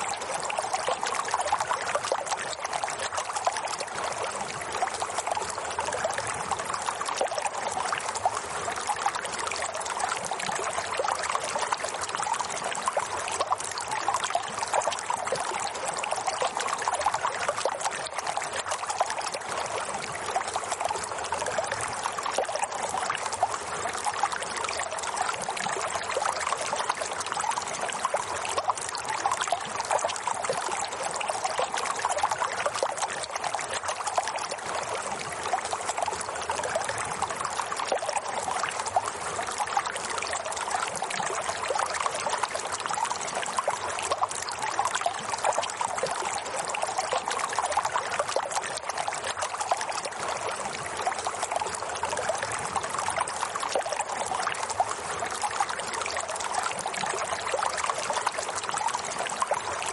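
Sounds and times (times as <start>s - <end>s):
water trickling and babbling: 0.0s - 59.9s.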